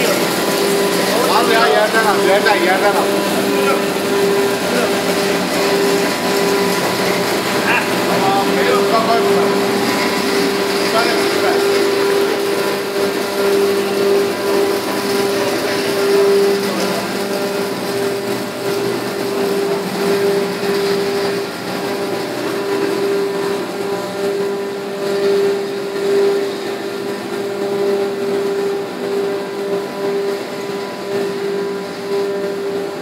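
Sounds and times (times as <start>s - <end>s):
ice machine humming: 0.0s - 33.0s.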